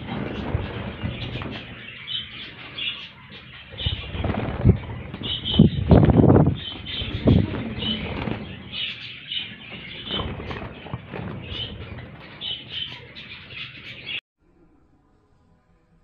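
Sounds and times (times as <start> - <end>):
wing flaps: 0.0 - 14.2.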